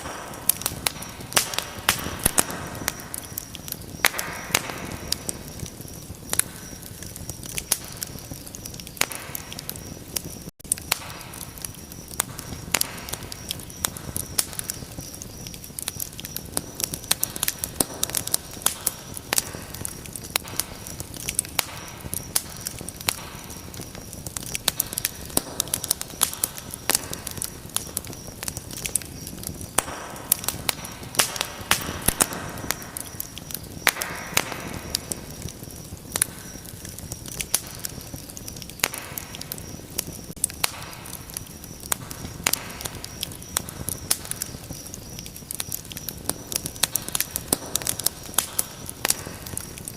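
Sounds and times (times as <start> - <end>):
fireplace fire crackling: 0.0 - 49.9.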